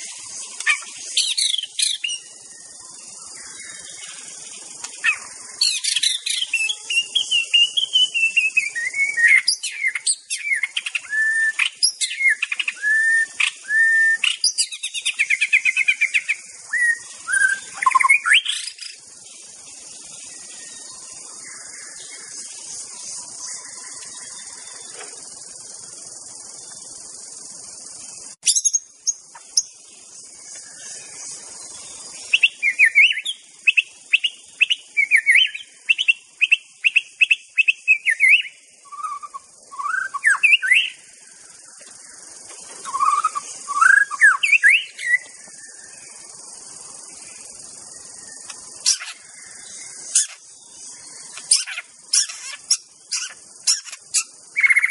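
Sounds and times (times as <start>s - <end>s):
songbird whistling song: 0.0s - 25.2s, 28.3s - 46.4s, 47.2s - 54.9s
steady high hiss: 0.0s - 54.9s.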